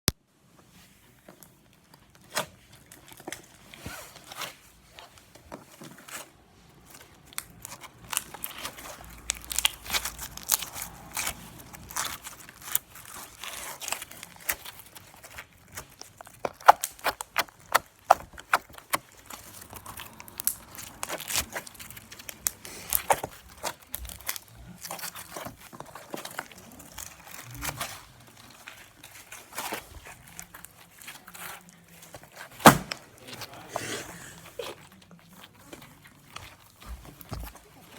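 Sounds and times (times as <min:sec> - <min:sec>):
crinkling and crackling: 0:00.5 - 0:37.9.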